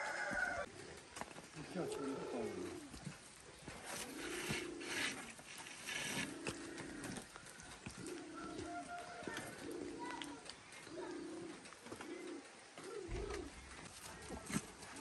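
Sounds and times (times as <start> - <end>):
dove cooing: 0.0 - 15.0
rustling and scraping: 0.0 - 15.0.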